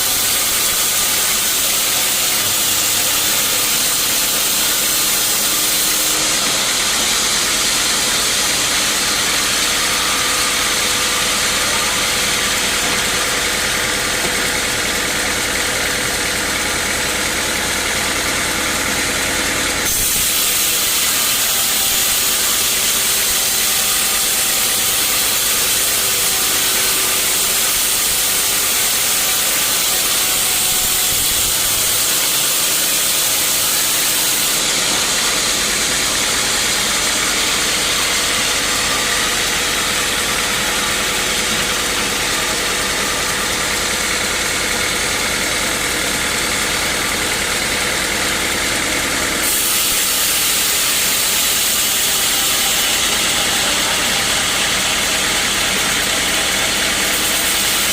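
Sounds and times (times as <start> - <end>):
sawmill machinery hiss: 0.0 - 17.0, 17.8 - 57.9.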